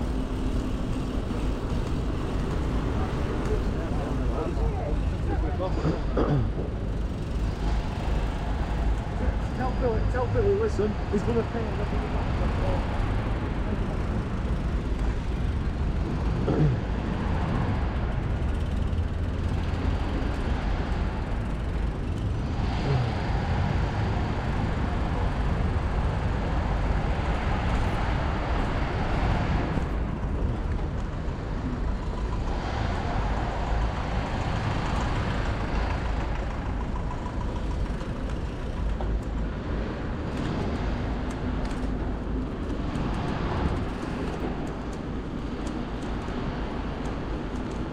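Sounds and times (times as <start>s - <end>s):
deep rumble: 0.0s - 47.9s
street traffic: 0.0s - 47.9s.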